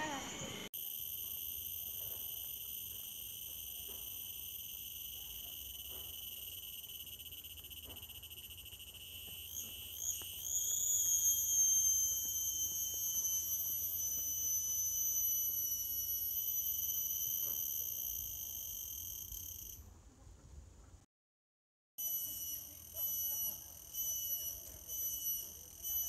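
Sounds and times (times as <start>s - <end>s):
insect buzzing whine: 0.0s - 19.8s, 22.0s - 26.0s.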